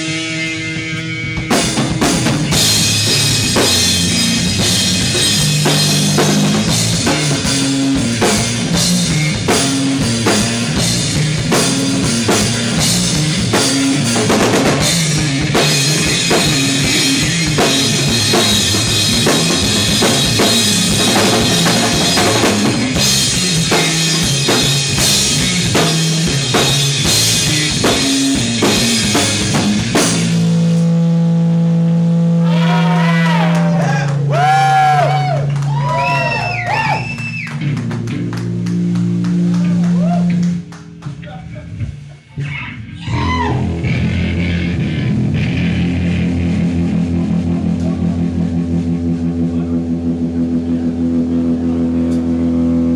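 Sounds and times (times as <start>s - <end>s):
drum kit beat: 0.0s - 42.2s, 43.0s - 49.4s
bass guitar notes: 0.0s - 52.9s.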